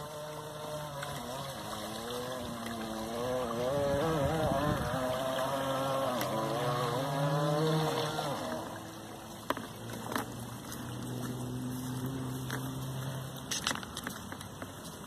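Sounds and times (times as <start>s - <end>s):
model boat motor whining: 0.0s - 14.8s.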